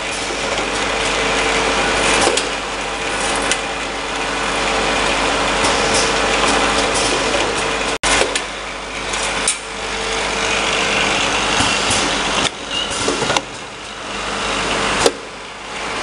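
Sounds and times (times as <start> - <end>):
bottling machine running: 0.0 - 16.0
motor hum: 0.0 - 16.0.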